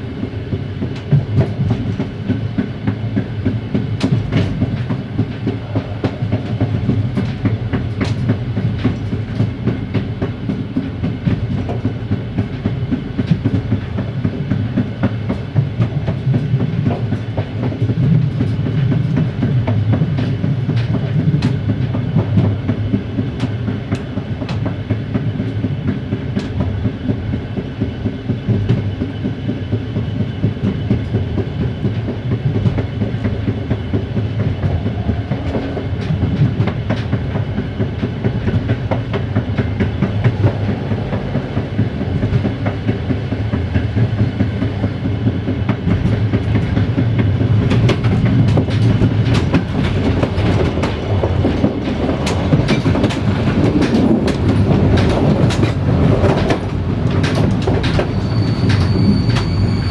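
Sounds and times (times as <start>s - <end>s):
diesel locomotive drone: 0.0s - 59.9s
wheels clickety-clack on track: 0.0s - 59.9s.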